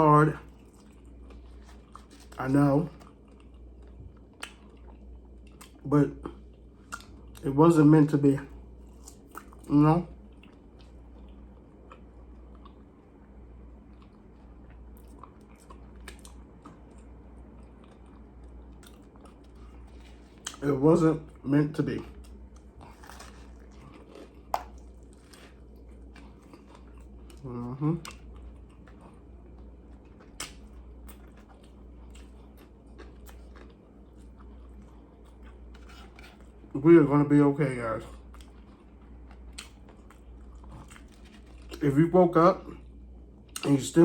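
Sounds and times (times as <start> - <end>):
steady low hum: 0.0 - 44.0
person chewing food: 0.4 - 7.4, 8.5 - 20.6, 22.0 - 36.7, 38.0 - 41.8.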